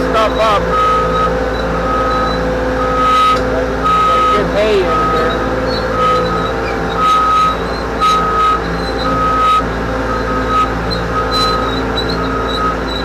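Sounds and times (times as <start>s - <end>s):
backup alarm beeping: 0.0s - 13.0s
diesel engine running: 0.0s - 13.0s.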